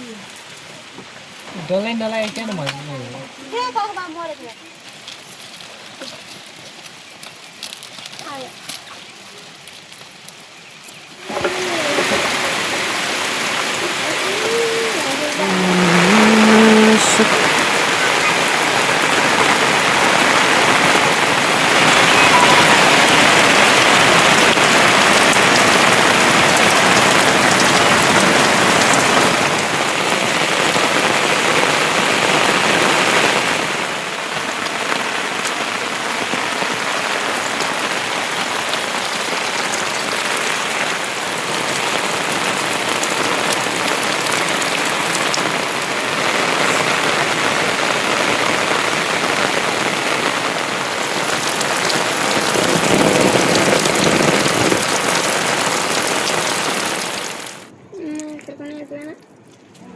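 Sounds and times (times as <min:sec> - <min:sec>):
heavy rain falling: 0:00.0 - 0:57.8.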